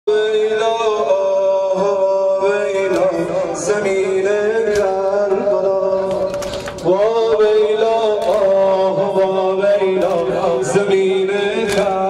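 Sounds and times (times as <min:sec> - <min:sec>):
man singing into microphone: 0:00.1 - 0:12.0.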